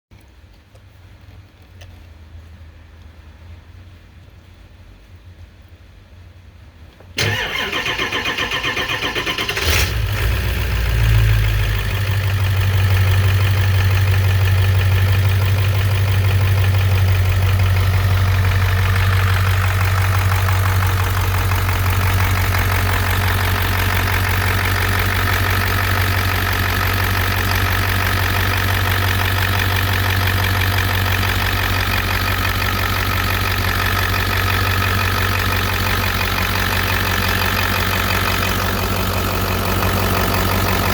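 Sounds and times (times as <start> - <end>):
diesel engine idling: 7.2 - 40.9
starter cranking engine: 7.2 - 40.9.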